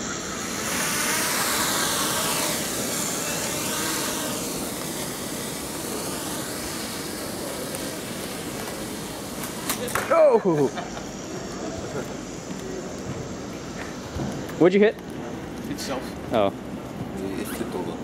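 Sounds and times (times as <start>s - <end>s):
small drone propellers whirring: 0.0s - 18.0s.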